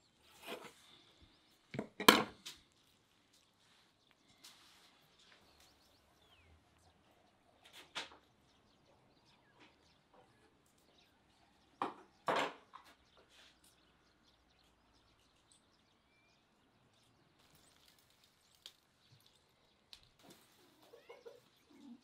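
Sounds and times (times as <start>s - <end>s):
faint bird chirps: 2.6s - 22.0s.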